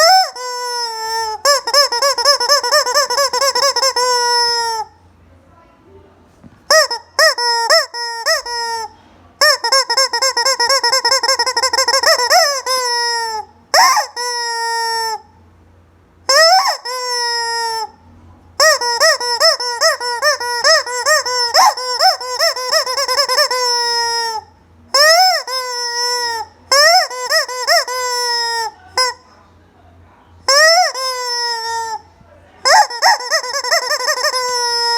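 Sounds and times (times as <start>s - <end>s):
rubber toy chicken squeaking: 0.0s - 5.0s, 6.7s - 15.4s, 16.3s - 18.0s, 18.6s - 29.4s, 30.4s - 34.9s.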